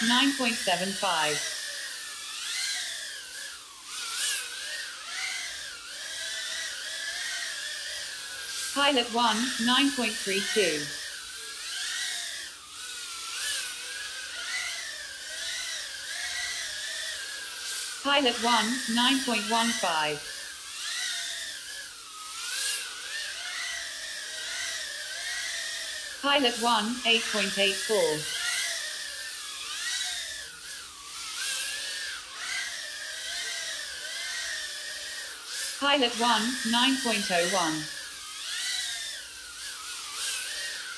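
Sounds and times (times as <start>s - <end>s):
small drone motors whining: 0.0s - 40.9s.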